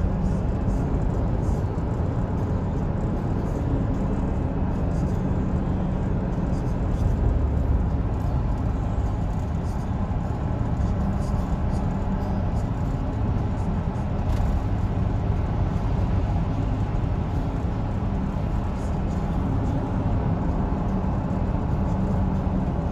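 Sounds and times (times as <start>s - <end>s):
car engine and road drone: 0.0s - 22.9s.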